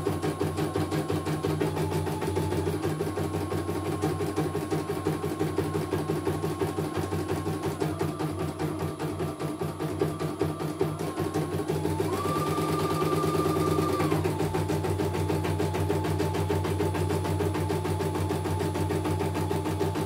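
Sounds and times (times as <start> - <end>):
motor whine: 0.0 - 20.0.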